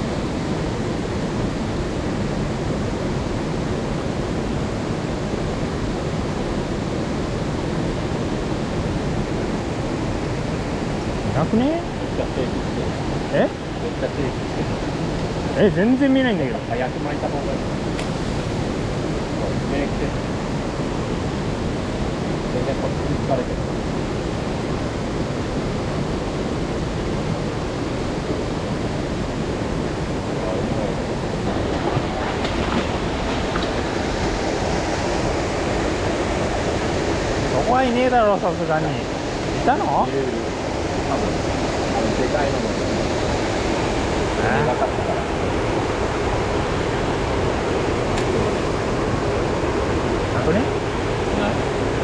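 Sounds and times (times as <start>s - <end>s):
mountain stream rushing: 0.0s - 52.0s.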